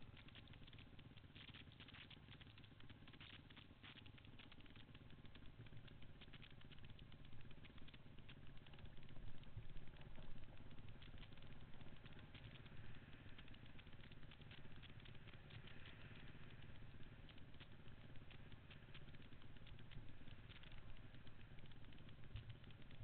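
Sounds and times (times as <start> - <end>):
muffled dirt bike engine: 0.0 - 23.0.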